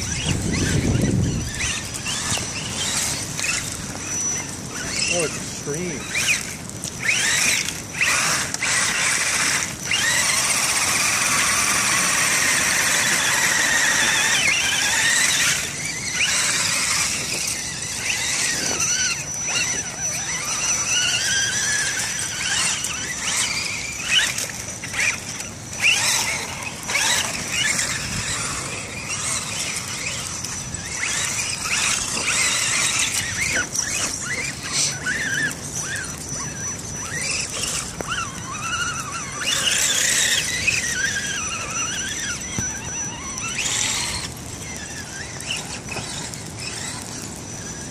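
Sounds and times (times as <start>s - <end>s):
toy truck motors whining: 0.0s - 47.9s.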